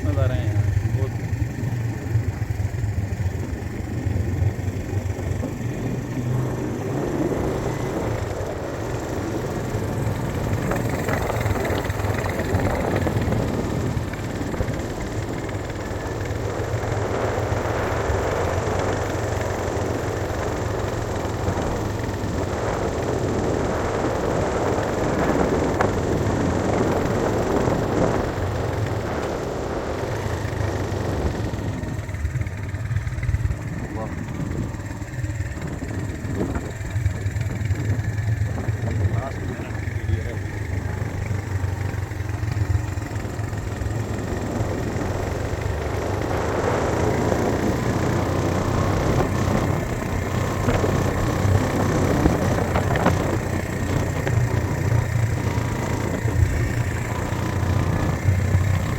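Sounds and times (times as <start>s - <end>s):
road and tyre noise: 0.0s - 58.9s
vehicle engine hum: 0.0s - 58.9s.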